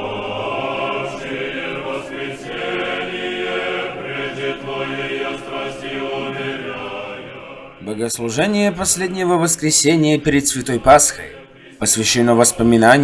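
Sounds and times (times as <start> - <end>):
church choir chanting: 0.0 - 13.0.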